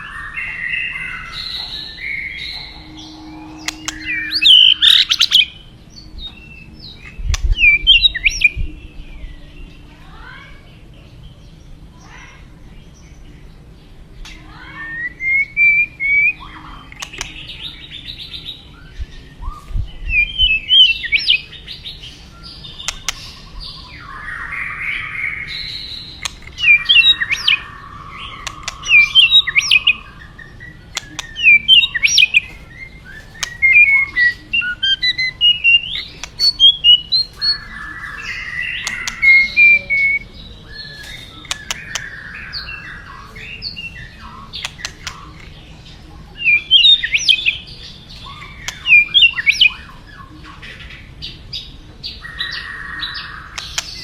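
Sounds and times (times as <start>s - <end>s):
bird singing whistles and rasps: 0.0s - 9.5s, 14.6s - 51.4s.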